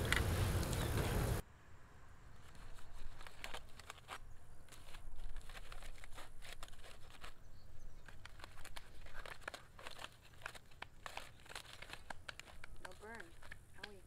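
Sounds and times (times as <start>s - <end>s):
aluminium foil crinkling: 2.4s - 14.0s.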